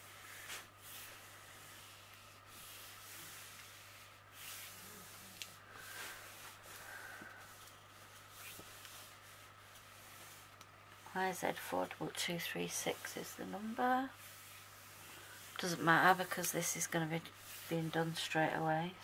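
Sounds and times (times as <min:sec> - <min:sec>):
steady low hum: 0:00.0 - 0:19.0
hands rubbing plastic paper: 0:00.4 - 0:18.9.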